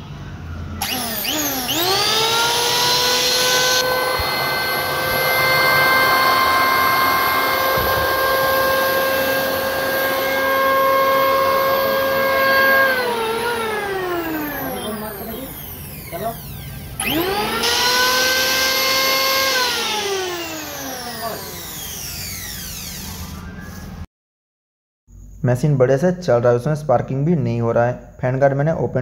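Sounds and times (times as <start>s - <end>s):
electric planer motor whine: 0.0s - 24.0s.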